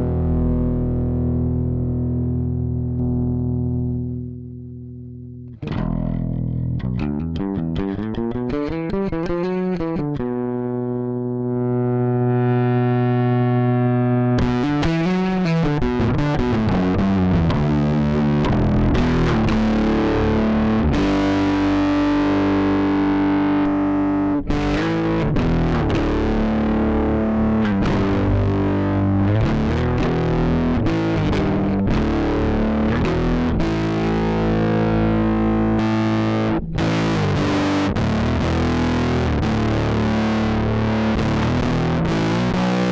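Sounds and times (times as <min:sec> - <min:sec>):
distorted electric bass: 0:00.0 - 0:42.9.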